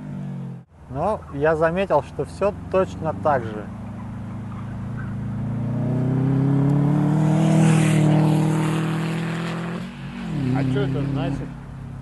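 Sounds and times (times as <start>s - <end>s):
car engine accelerating: 2.1s - 12.0s.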